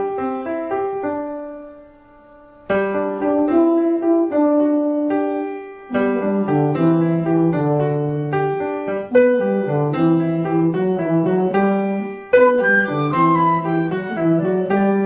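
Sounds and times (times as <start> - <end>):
cartoon keyboard melody: 2.8 - 15.0.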